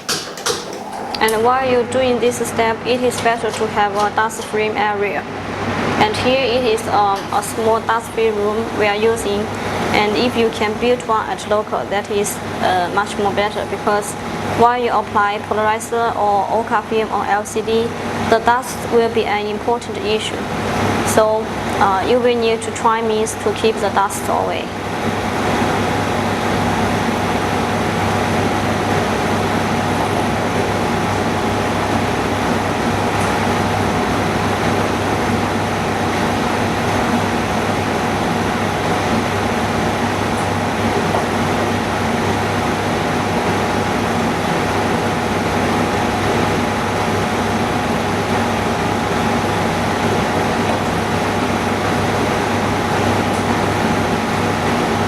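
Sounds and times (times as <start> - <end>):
machine drone with rushing air: 0.0 - 16.6, 24.0 - 55.0
faint steady whine: 0.0 - 55.0.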